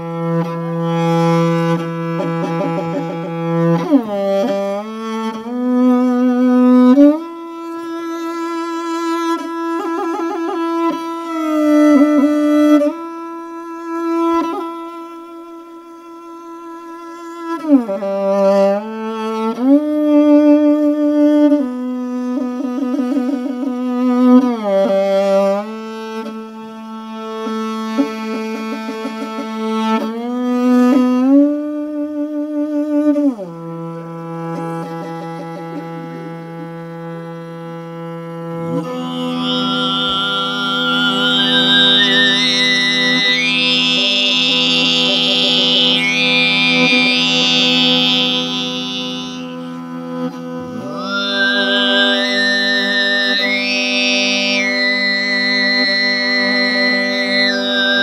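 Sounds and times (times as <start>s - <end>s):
bowed fiddle melody: 0.0s - 58.0s.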